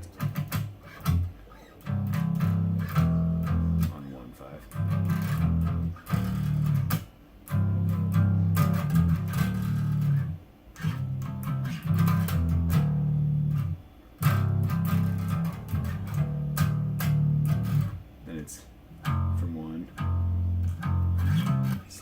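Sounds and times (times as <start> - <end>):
bass guitar low notes: 0.0 - 4.0, 4.6 - 18.4, 19.0 - 22.0
string and fret noise: 0.0 - 18.4, 19.0 - 22.0.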